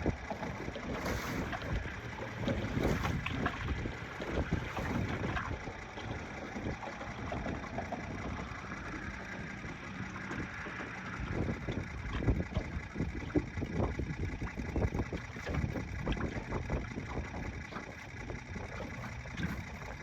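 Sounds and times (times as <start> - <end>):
water slapping metal boat hull: 0.0 - 20.0
wind buffeting microphone: 0.0 - 20.0.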